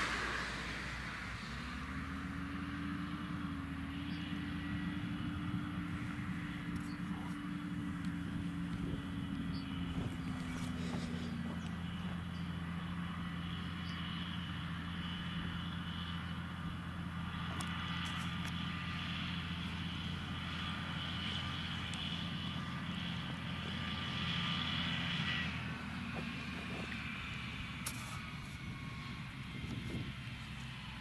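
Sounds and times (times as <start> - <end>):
steady high whine: 0.0 - 31.0
tractor diesel engine under load: 0.0 - 31.0.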